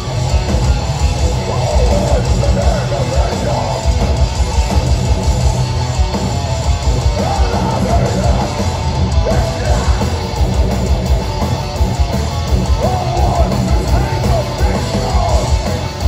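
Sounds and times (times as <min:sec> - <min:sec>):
high lead guitar line: 0:00.0 - 0:16.0
metal band playing live: 0:00.0 - 0:16.0.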